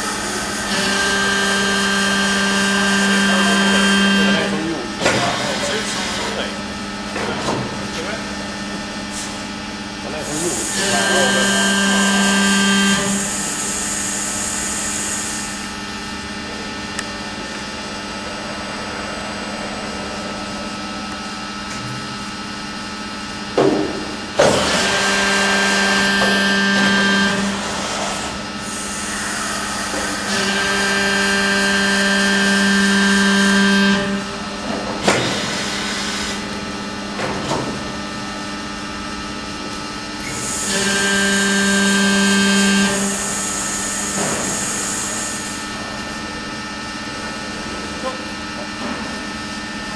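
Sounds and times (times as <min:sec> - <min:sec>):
machine humming and whining: 0:00.0 - 0:49.9.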